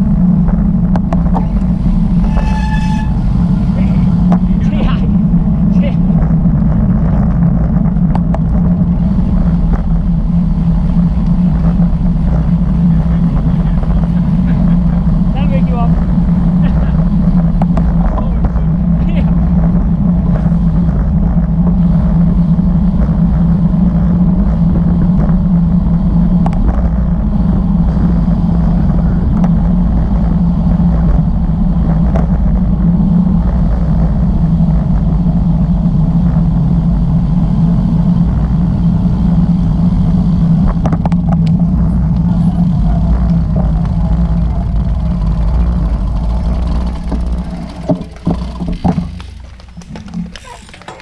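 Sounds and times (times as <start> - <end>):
bike tyres humming on asphalt: 0.0 - 51.0
wind rushing on microphone: 0.0 - 51.0.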